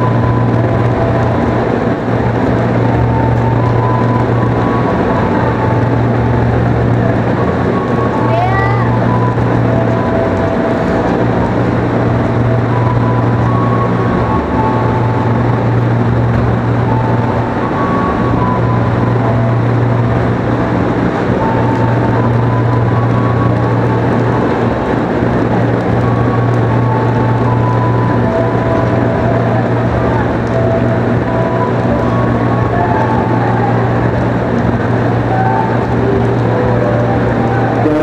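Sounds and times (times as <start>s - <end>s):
electric train low hum: 0.0s - 38.0s.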